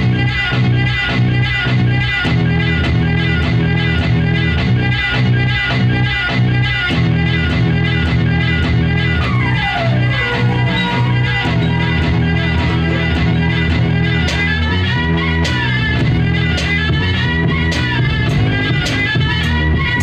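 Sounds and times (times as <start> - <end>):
heavy synth bass: 0.0 - 20.0
gliding synth lead line: 2.3 - 20.0.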